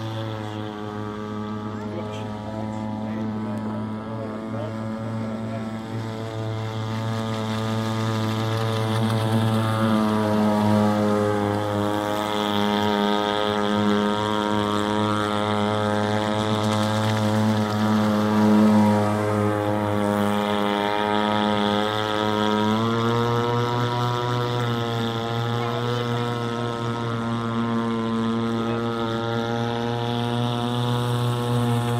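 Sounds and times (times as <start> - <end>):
model boat engine droning: 0.0 - 31.9.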